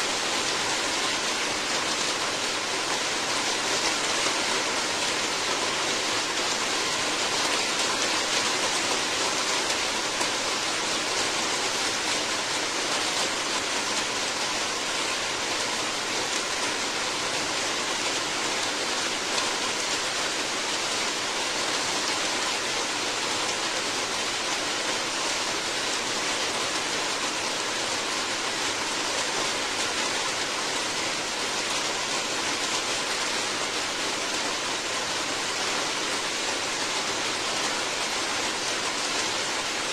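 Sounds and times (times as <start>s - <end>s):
rainfall hiss: 0.0s - 39.9s.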